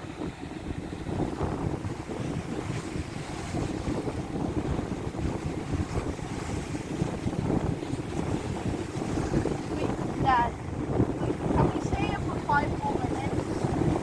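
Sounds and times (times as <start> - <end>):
heavy surf: 0.0 - 14.0
wind buffeting microphone: 0.0 - 14.0.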